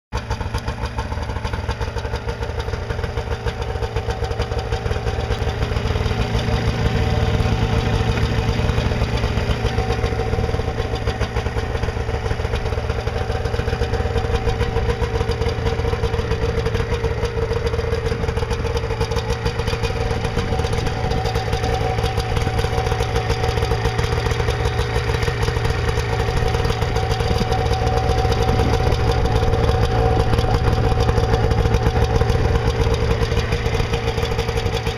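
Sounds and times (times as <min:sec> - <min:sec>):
snowmobile engine idling: 0:00.1 - 0:34.9.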